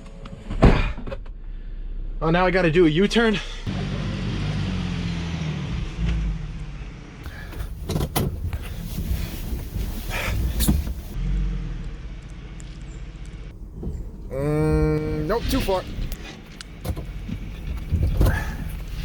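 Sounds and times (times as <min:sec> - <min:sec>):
tyre and road noise: 0:03.7 - 0:19.0
van engine running low: 0:03.7 - 0:19.0.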